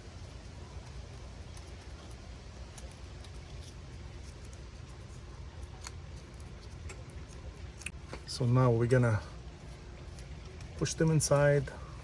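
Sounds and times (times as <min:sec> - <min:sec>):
faint clicks and rustles: 0:00.0 - 0:12.0
steady low rumble: 0:00.0 - 0:12.0.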